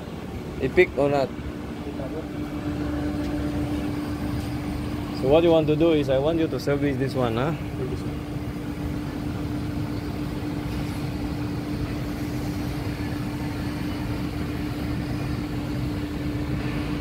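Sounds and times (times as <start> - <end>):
chiller machinery hum: 0.0 - 17.0.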